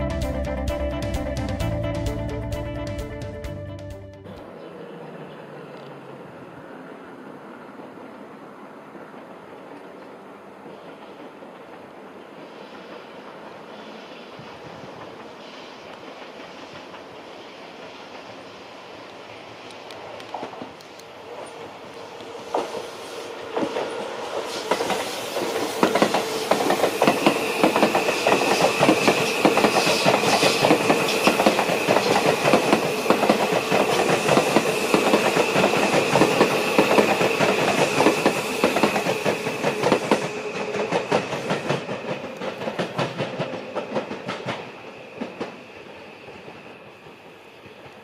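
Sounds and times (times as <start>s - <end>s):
train wheels clicking over rail joints: 9.0s - 48.0s.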